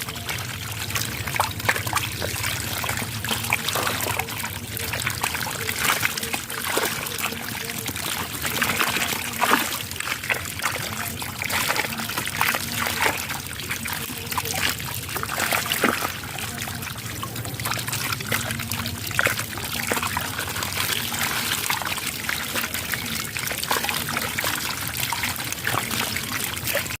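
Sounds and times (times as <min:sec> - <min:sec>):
water trickling and splashing: 0:00.0 - 0:27.0.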